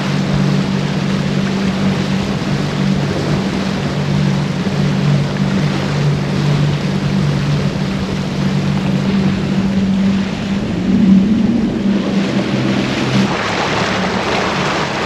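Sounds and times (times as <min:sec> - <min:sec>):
outboard motor humming: 0:00.0 - 0:15.0
rush of wind and water: 0:00.0 - 0:15.0.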